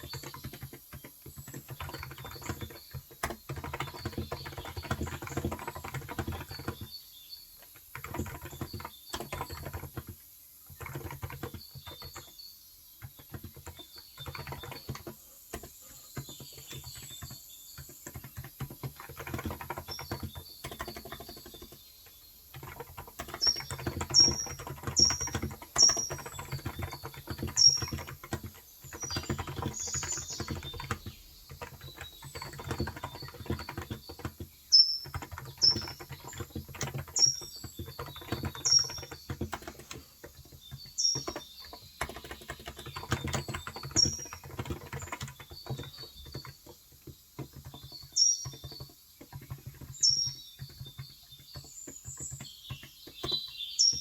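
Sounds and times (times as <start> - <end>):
soft rapid keyboard typing: 0.0 - 54.0.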